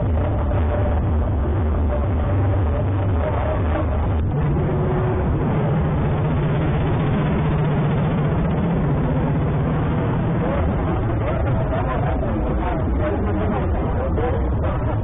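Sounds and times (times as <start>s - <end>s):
crowd: 0.0s - 15.0s
steady low hum: 0.0s - 15.0s
traffic: 0.0s - 15.0s.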